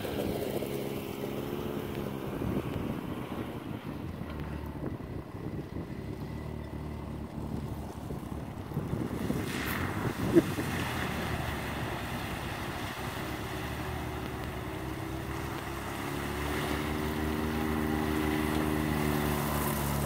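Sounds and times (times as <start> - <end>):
tyres splashing through water: 0.0 - 20.0
utility vehicle engine running: 0.0 - 20.0.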